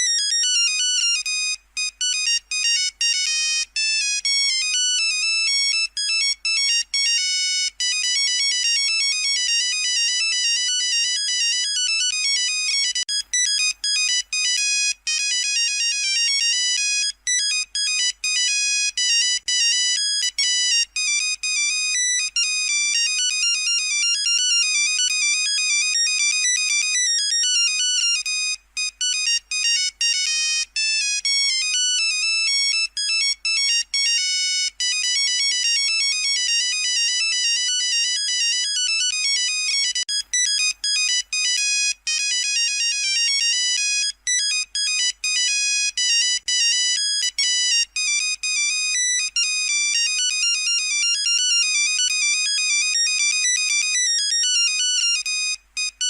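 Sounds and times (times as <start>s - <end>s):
phone ringtone beeping melody: 0.0s - 56.0s.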